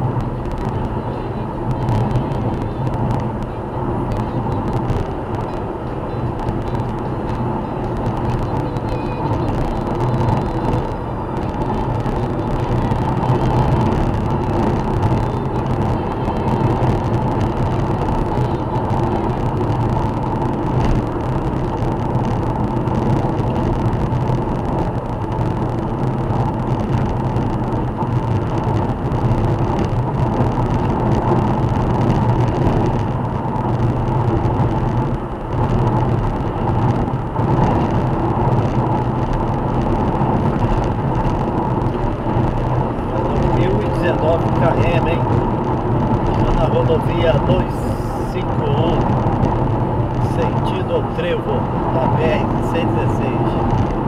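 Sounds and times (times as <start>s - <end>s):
car engine: 0.0s - 54.0s
tyre and road noise: 0.0s - 54.0s
wind noise: 0.0s - 54.0s.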